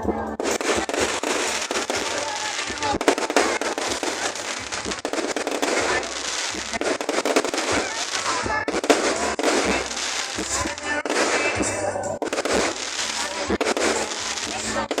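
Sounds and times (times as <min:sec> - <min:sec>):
fireworks crackling and popping: 0:00.0 - 0:15.0
onlookers' voices: 0:00.0 - 0:15.0.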